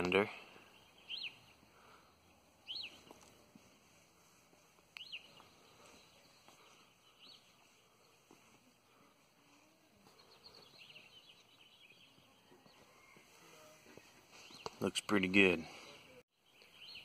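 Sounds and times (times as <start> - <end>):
distant bird chirps: 0.0 - 17.0.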